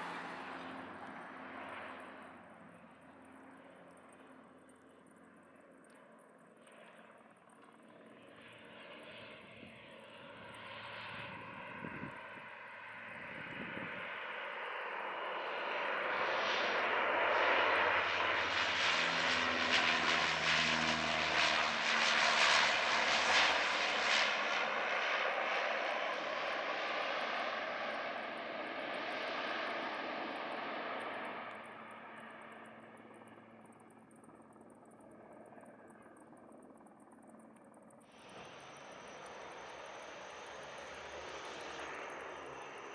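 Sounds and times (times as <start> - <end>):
turboprop plane passing: 0.0 - 42.9.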